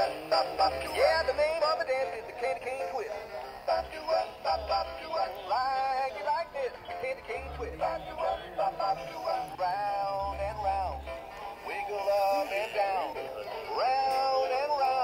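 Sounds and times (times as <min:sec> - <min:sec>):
person singing over music: 0:00.0 - 0:15.0
toy playing a recorded song: 0:00.0 - 0:15.0.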